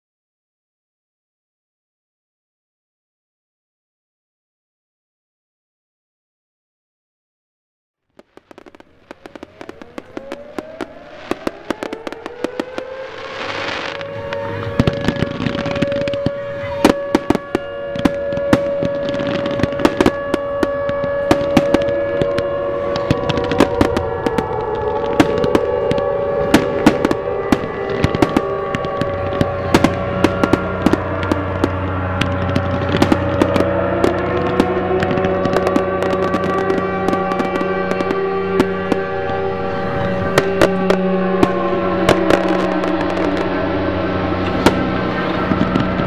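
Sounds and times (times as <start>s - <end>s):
fireworks bangs and crackling: 8.2s - 46.0s
fireworks whistling: 8.2s - 46.0s.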